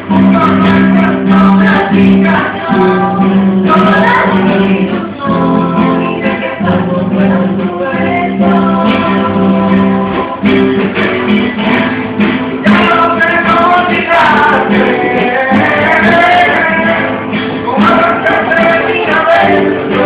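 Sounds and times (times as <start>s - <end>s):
acoustic guitar strumming: 0.0s - 20.0s
person singing: 0.0s - 20.0s.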